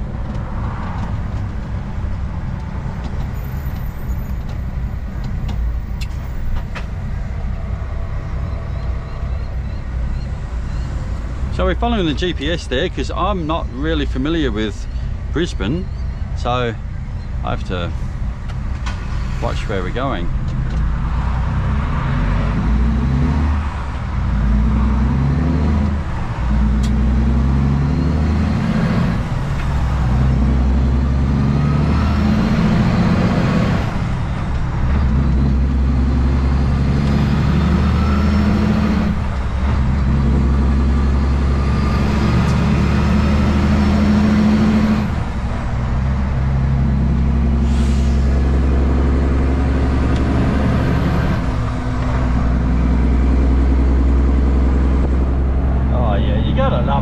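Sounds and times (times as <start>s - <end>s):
truck diesel engine shifting gears: 0.0s - 57.0s.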